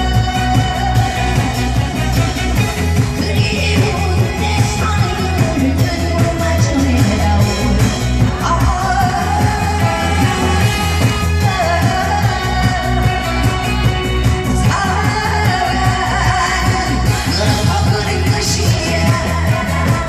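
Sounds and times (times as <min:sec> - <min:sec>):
backing track with pulsing bass beat: 0:00.0 - 0:20.0
person singing: 0:00.0 - 0:20.0.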